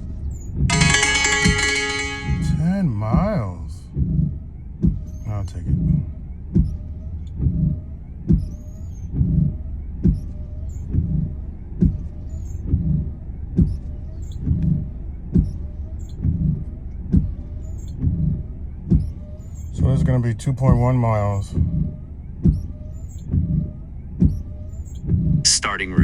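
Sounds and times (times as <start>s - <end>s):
wiper blades squeaking on glass: 0.2s - 2.8s, 5.0s - 5.6s, 6.6s - 25.4s
car engine idling hum: 2.5s - 26.0s.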